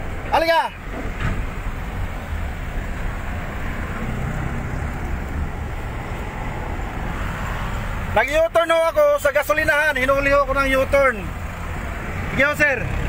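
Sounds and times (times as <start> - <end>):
low engine rumble: 0.0 - 13.0
road noise: 0.0 - 13.0.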